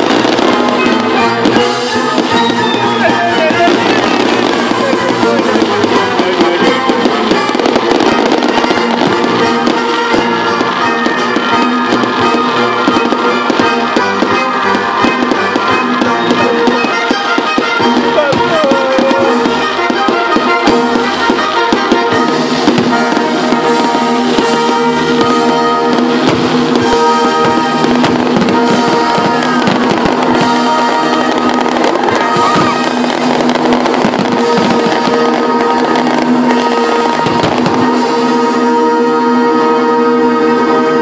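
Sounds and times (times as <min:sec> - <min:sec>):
fireworks bangs and crackles: 0:00.0 - 0:41.0
live band playing: 0:00.0 - 0:41.0.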